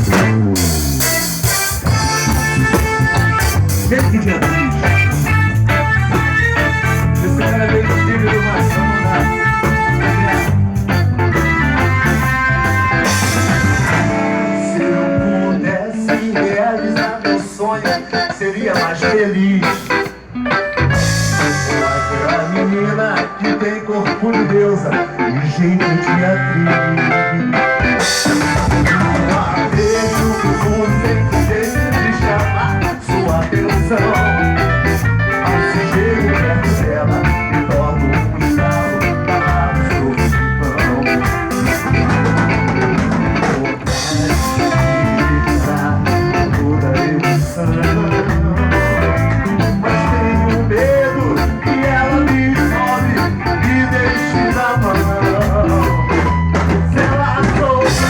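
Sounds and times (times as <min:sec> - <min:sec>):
drum kit: 0:00.0 - 0:14.6, 0:19.6 - 0:22.3, 0:27.7 - 0:58.0
guitar: 0:00.0 - 0:58.0
live band playing: 0:00.0 - 0:58.0.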